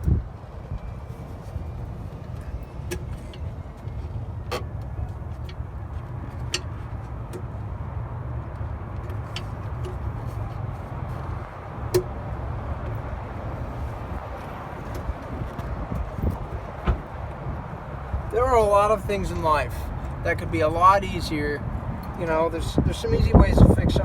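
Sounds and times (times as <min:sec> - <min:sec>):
motor vehicles rumbling: 0:00.0 - 0:24.0.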